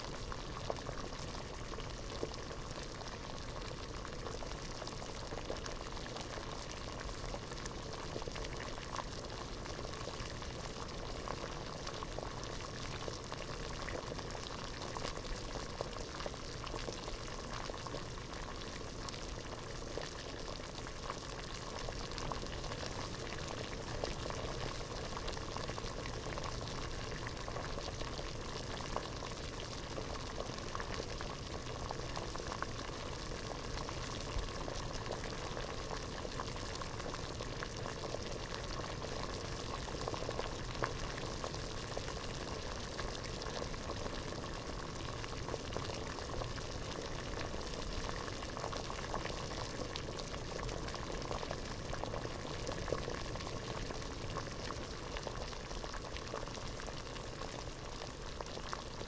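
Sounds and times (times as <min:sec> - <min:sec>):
water boiling in a pot: 0:00.0 - 0:59.0.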